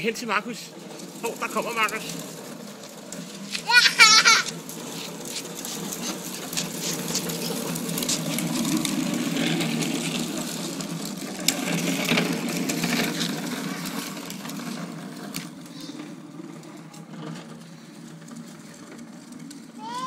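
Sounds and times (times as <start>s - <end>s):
plastic wheels rolling on asphalt: 0.0s - 20.0s.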